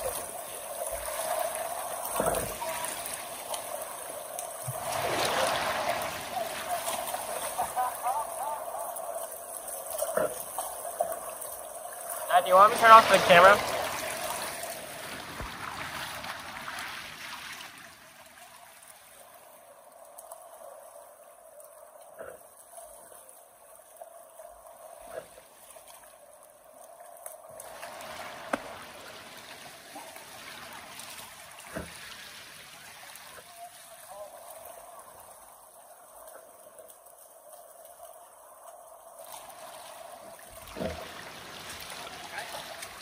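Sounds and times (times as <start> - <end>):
river water flowing: 0.0 - 43.0.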